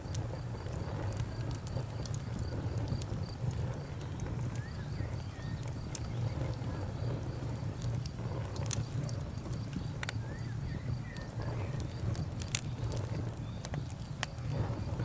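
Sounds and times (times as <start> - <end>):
cricket chirping: 0.0 - 15.0
wood fire crackling: 0.0 - 15.0.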